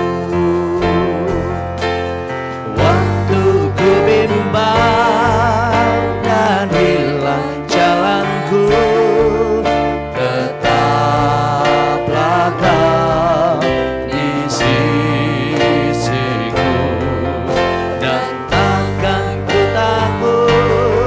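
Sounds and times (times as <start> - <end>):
instrumental accompaniment: 0.0 - 21.0
person singing with vibrato: 0.0 - 21.0.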